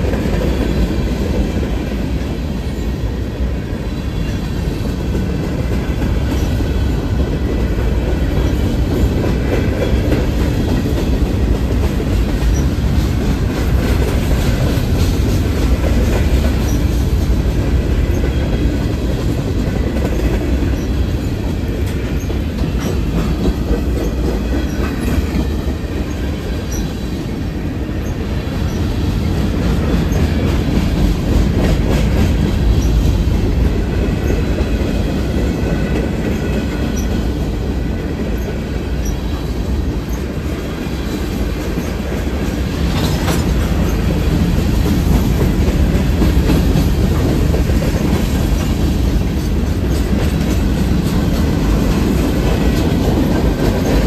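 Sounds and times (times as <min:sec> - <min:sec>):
train cars rumbling past: 0:00.0 - 0:54.0.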